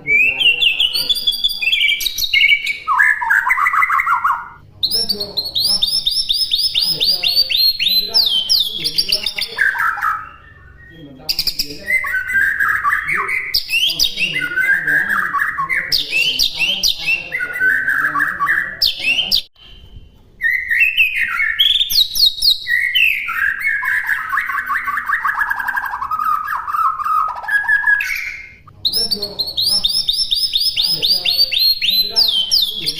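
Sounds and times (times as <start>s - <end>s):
bird singing warbling phrases: 0.0s - 32.9s.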